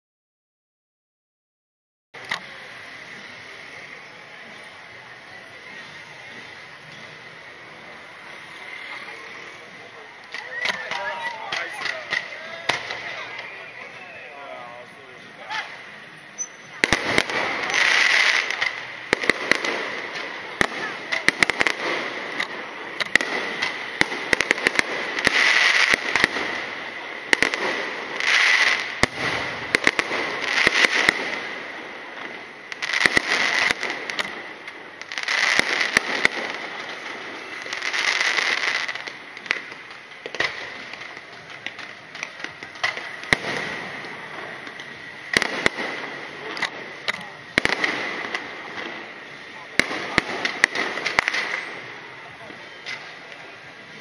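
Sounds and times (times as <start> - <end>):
fireworks bursting: 2.2 - 54.0.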